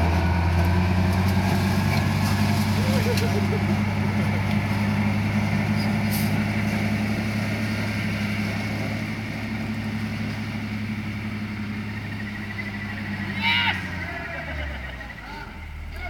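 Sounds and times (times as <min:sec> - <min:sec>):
truck engine running at low revs: 0:00.0 - 0:16.0.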